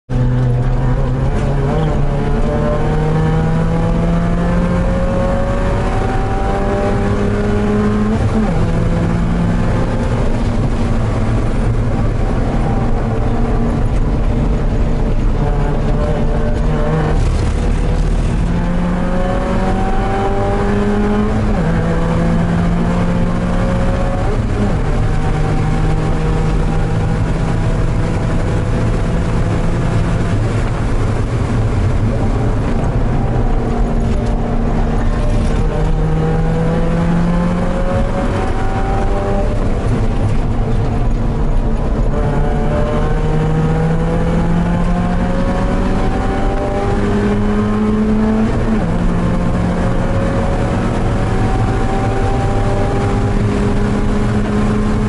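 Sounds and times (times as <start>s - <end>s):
race car engine at full throttle: 0.0s - 55.0s.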